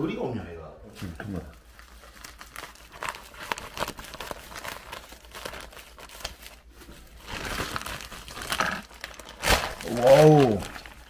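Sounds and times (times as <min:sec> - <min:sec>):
plastic bag crinkling: 0:01.0 - 0:11.0.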